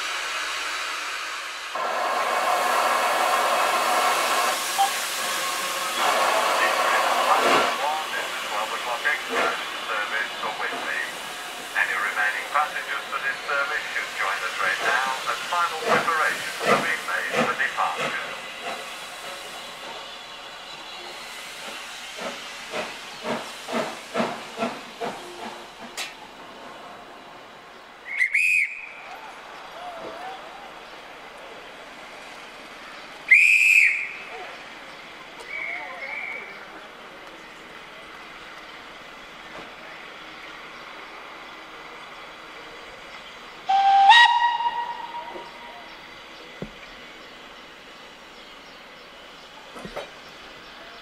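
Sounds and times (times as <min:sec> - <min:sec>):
steam hissing: 0:00.0 - 0:29.1, 0:31.0 - 0:50.9.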